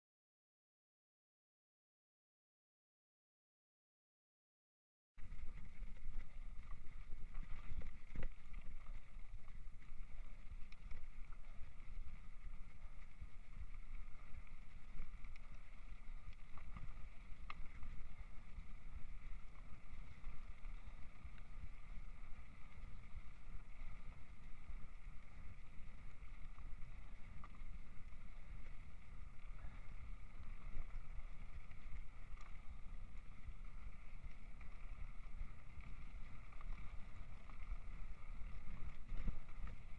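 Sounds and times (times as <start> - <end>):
wind and road rumble: 5.2 - 39.9.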